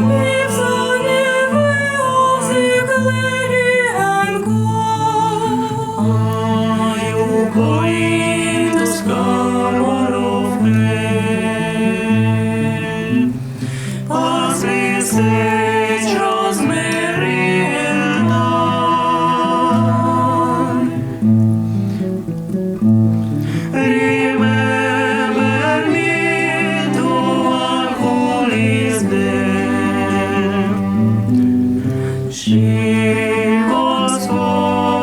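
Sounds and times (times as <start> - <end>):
person singing: 0.0 - 21.5, 23.3 - 35.0
plucked acoustic guitar: 0.0 - 35.0.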